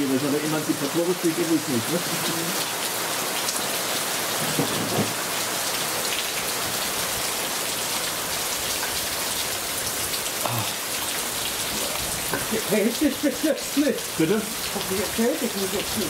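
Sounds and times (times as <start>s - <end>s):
steady rain pouring: 0.0s - 16.0s.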